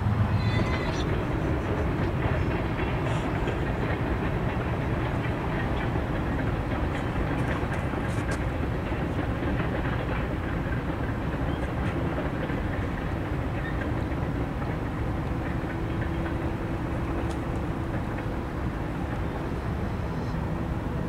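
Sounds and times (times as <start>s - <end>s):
freight train rumbling over bridge: 0.0s - 21.0s.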